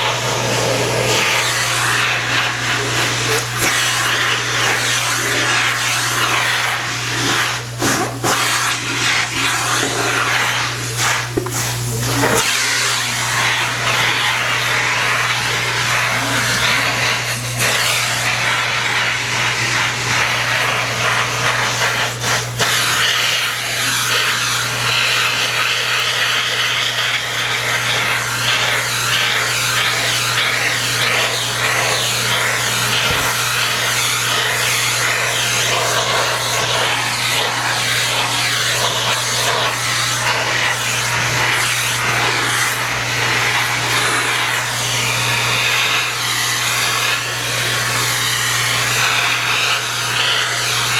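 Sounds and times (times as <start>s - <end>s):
vacuum cleaner running: 0.0s - 50.9s.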